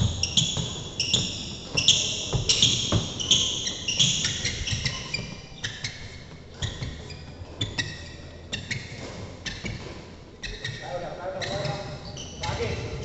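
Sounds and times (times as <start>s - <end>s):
footsteps thudding on wooden court: 0.0s - 13.0s
shoes squeaking on wooden court: 0.0s - 13.0s.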